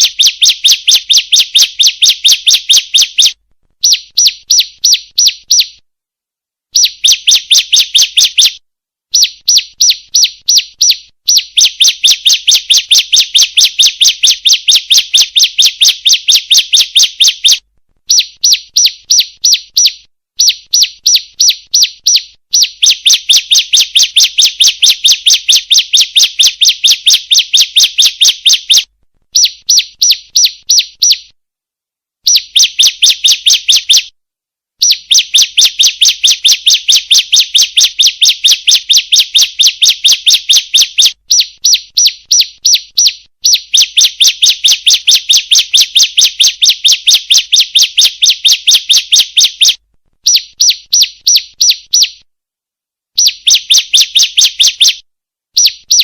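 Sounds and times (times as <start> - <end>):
bird chirping: 0.0 - 5.8, 6.7 - 31.4, 32.2 - 34.2, 34.8 - 52.3, 53.2 - 56.0.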